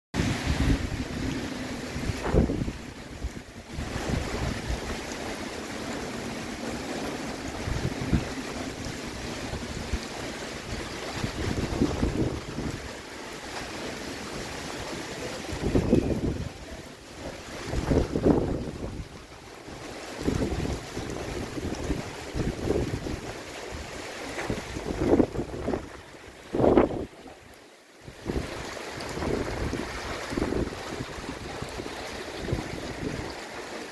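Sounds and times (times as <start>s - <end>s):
gusting wind: 0.1s - 33.9s
wind thudding on microphone: 0.2s - 13.0s, 14.3s - 19.2s, 19.8s - 27.4s, 28.0s - 33.4s
heavy rain pouring: 0.2s - 33.9s.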